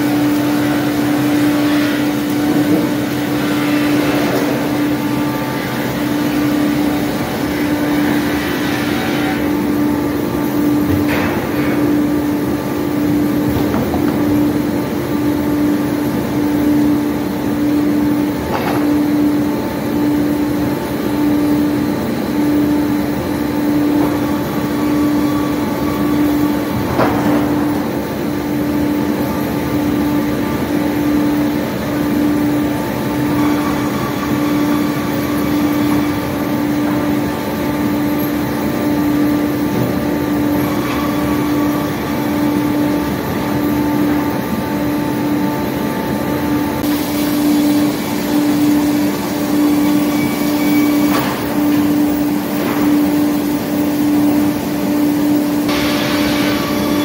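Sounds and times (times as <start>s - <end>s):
sawmill machines humming: 0.0s - 57.0s.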